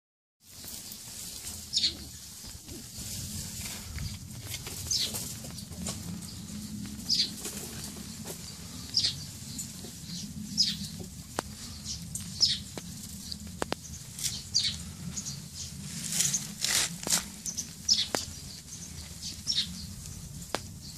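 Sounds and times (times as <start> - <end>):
high falling bird calls: 0.5 - 20.9.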